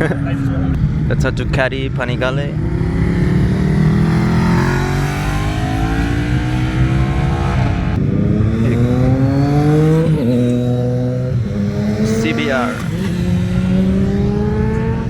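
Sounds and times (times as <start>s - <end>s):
motorcycle accelerating: 0.0s - 15.0s.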